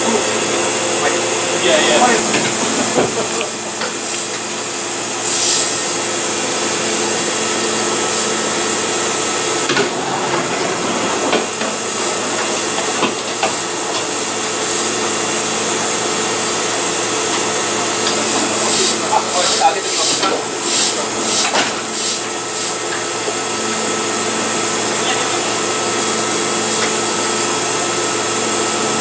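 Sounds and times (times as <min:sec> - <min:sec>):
railcar equipment humming: 0:00.0 - 0:29.0.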